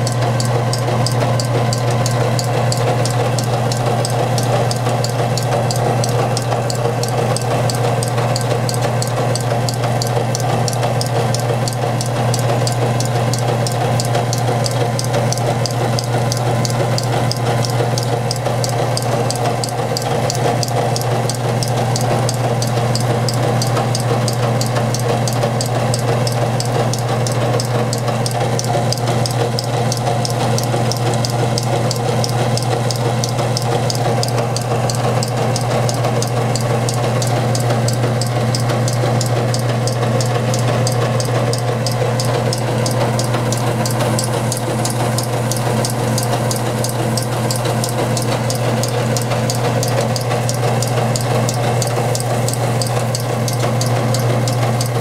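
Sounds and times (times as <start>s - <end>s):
appliance motor humming: 0.0s - 55.0s
fast regular clicking: 0.0s - 55.0s.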